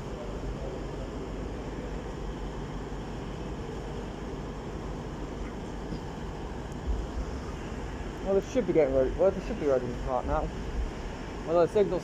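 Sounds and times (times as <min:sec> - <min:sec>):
train engines idling: 0:00.0 - 0:12.0.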